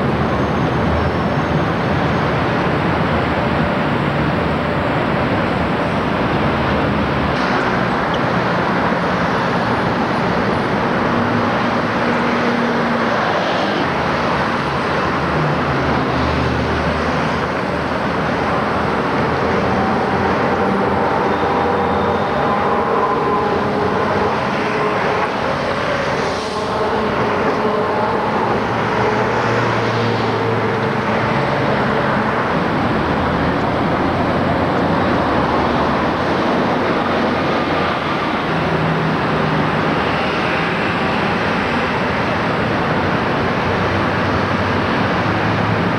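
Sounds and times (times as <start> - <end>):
city street traffic: 0.0 - 45.9.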